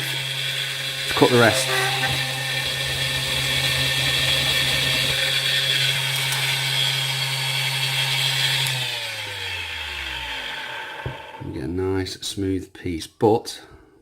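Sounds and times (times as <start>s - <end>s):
power tool motor running: 0.0s - 11.4s.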